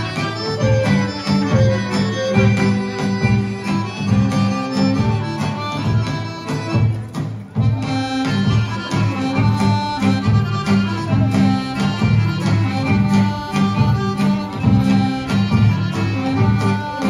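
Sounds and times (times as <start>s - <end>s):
accordion: 0.0s - 17.0s
fiddle playing a tune: 0.0s - 17.0s.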